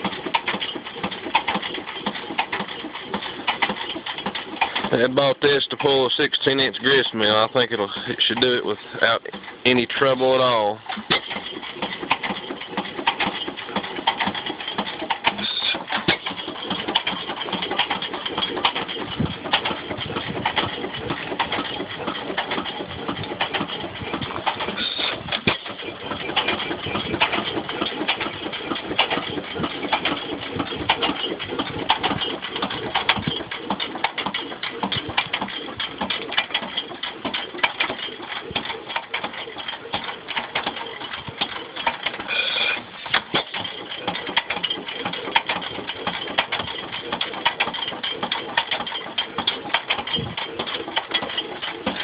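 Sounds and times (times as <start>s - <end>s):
stationary gas engine beating: 0.0s - 52.0s.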